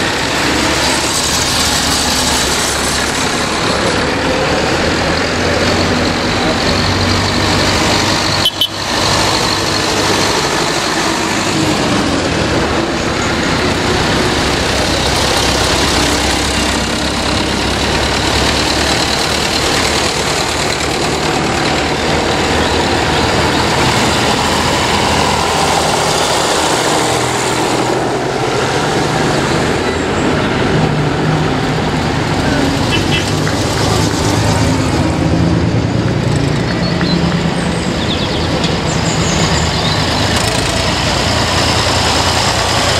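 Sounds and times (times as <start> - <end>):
tractor engines passing: 0.0 - 42.9.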